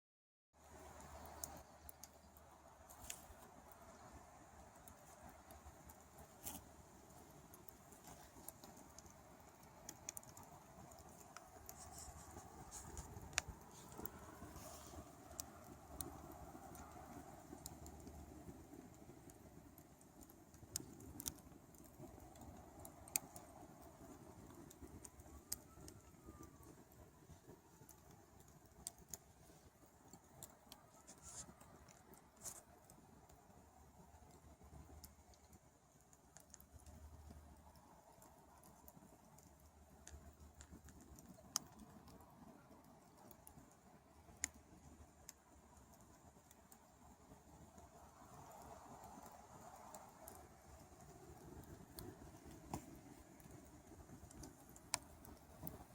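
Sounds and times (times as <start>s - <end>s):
campfire crackling and popping: 0.6s - 55.9s.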